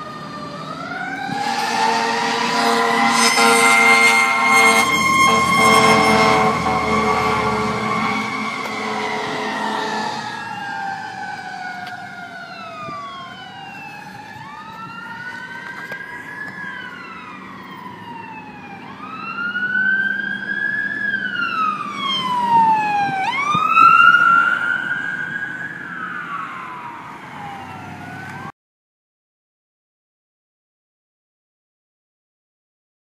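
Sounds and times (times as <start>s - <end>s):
emergency vehicle sirens wailing: 0.0s - 28.5s.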